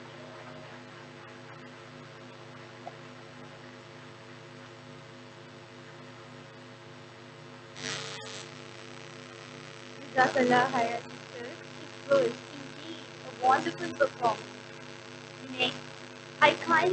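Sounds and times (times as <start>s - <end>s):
electrical mains hum: 0.0s - 16.9s.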